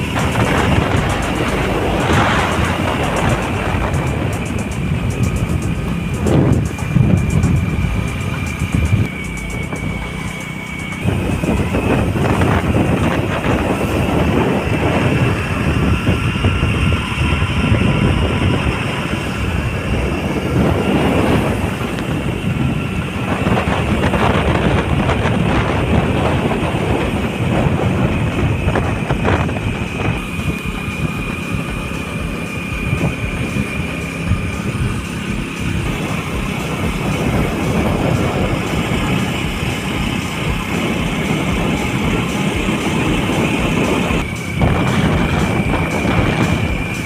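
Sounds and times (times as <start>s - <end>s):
thin high whine: 0.0s - 47.0s
vehicle road noise with rattle: 0.0s - 47.0s.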